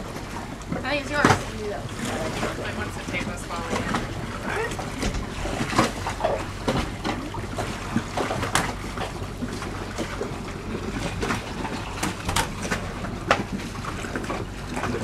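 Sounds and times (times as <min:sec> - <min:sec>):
water splashing around boat: 0:00.0 - 0:15.0.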